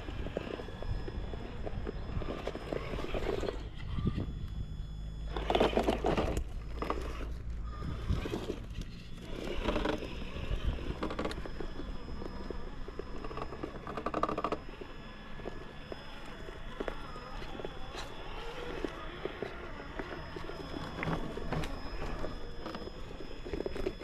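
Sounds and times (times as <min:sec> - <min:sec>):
electric motor and gearbox whine: 0:00.0 - 0:24.0.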